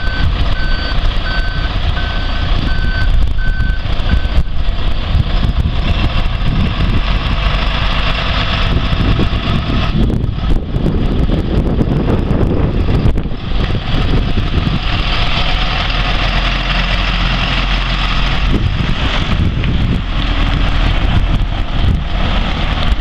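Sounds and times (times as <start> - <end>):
diesel truck driving past: 0.0 - 23.0.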